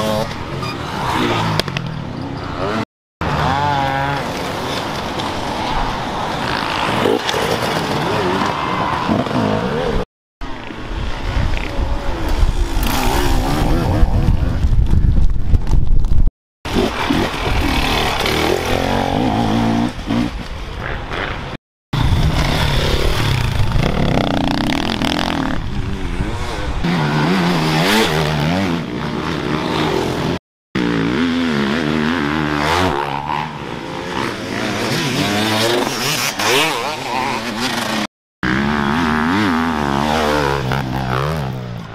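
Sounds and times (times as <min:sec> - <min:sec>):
dirt bike engines revving: 0:00.0 - 0:14.6, 0:16.7 - 0:41.9.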